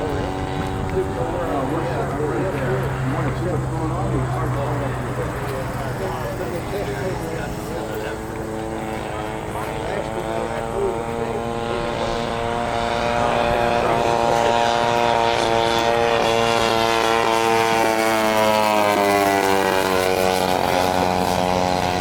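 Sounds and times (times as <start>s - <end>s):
model aircraft engine buzzing: 0.0s - 22.0s.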